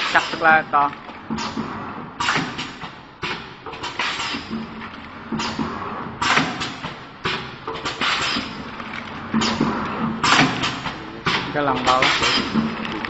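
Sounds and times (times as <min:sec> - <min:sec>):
packing machine running: 0:00.0 - 0:13.0
machine thud: 0:01.3 - 0:08.6, 0:09.3 - 0:12.8.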